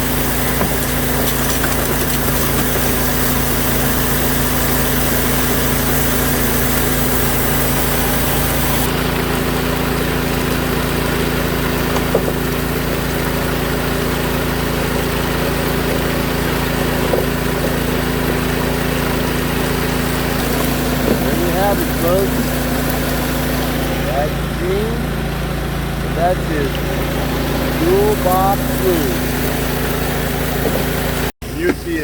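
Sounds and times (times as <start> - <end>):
rushing water: 0.0 - 24.8, 26.5 - 31.3
water pump engine running: 0.0 - 32.0.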